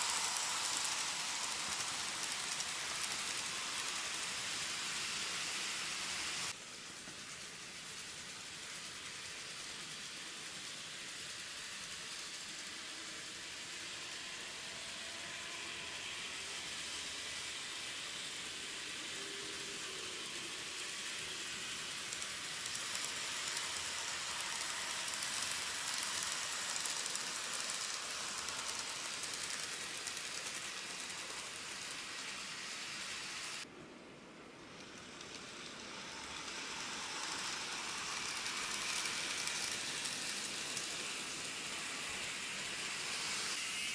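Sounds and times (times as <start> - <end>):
model train wheels rattling on rail: 0.0 - 33.7, 34.6 - 43.9
faint motor whine: 0.0 - 43.9.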